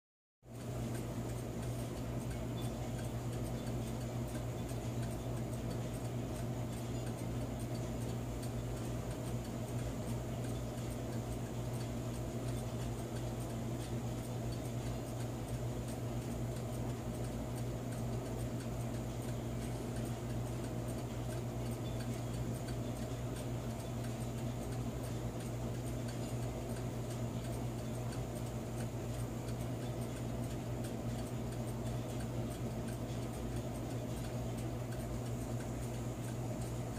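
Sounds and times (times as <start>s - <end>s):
clock motor hum: 0.5s - 36.9s
fast faint clock ticking: 0.5s - 36.9s.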